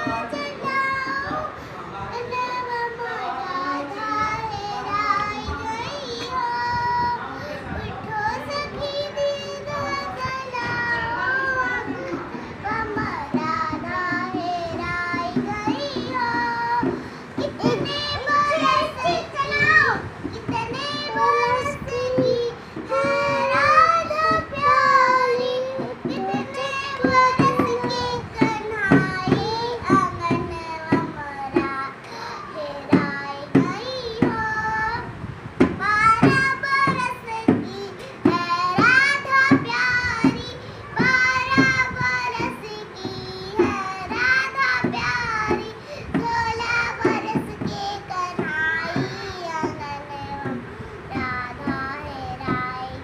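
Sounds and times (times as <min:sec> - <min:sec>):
girl singing: 0:00.0 - 0:53.0.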